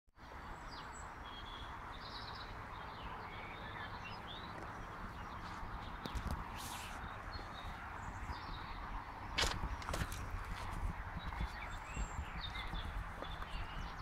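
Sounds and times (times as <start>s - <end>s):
flowing river water: 0.2s - 14.0s
songbirds chirping: 0.2s - 14.0s.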